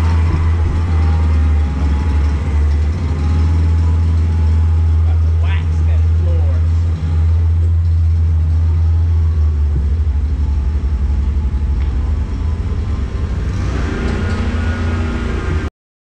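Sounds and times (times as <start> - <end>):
power wheelchair motor rumble: 0.0 - 15.7.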